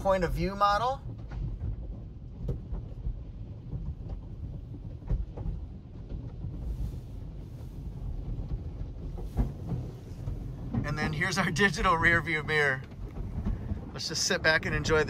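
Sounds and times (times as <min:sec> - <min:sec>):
car wash rumble: 0:00.0 - 0:15.0.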